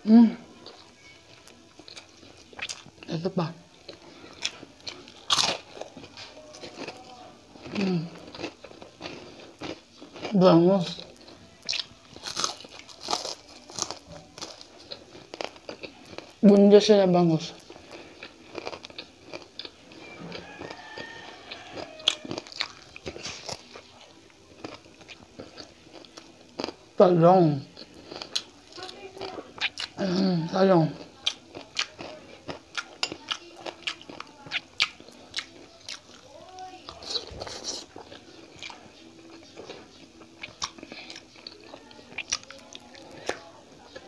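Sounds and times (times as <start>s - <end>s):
person chewing with crunches: 0.6s - 16.8s, 17.4s - 27.0s, 27.6s - 44.0s.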